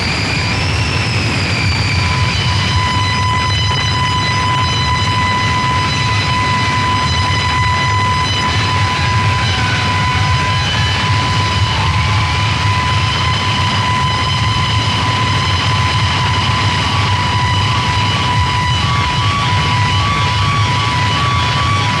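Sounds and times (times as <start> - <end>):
harsh noise music: 0.0 - 22.0.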